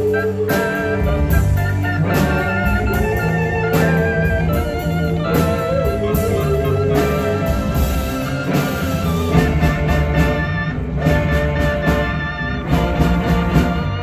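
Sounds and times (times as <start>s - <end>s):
drums playing a steady beat: 0.0s - 14.0s
guitar: 0.0s - 14.0s
live band music: 0.0s - 14.0s.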